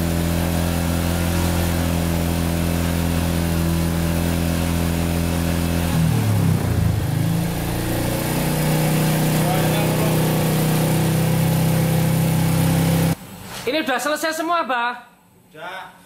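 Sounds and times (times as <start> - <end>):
motorcycle engine idling: 0.0 - 13.2.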